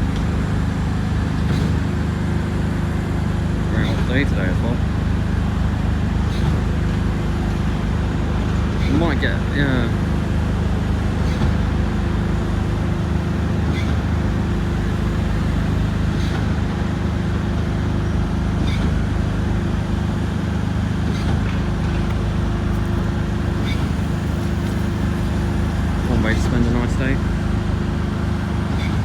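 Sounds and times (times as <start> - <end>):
diesel engine running: 0.0 - 29.0
engine whine: 0.0 - 29.0
road traffic: 0.0 - 29.0.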